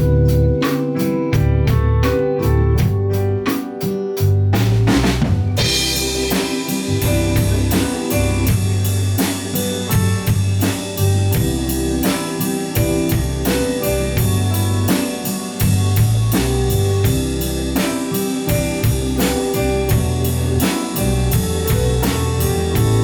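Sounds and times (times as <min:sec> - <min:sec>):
bass: 0:00.0 - 0:23.0
drum kit beat: 0:00.0 - 0:23.0
keyboard chords: 0:00.0 - 0:23.0.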